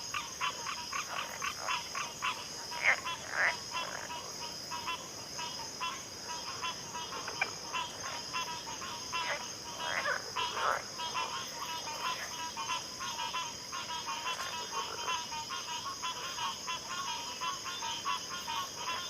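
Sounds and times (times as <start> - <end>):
frogs croaking: 0.0 - 19.0
high-pitched insect trill: 0.0 - 19.0.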